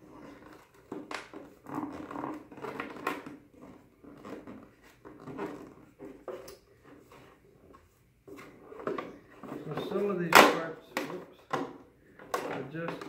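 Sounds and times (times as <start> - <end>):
plastic creaking and clicking: 0.2 - 6.6, 8.8 - 13.0.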